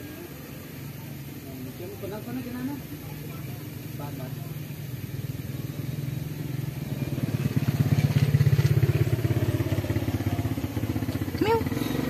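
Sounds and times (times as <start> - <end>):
small engine pulsing: 0.0 - 12.0.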